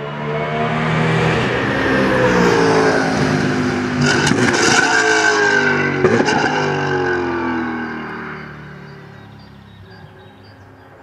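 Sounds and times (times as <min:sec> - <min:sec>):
race car engine running hard: 0:00.0 - 0:10.9.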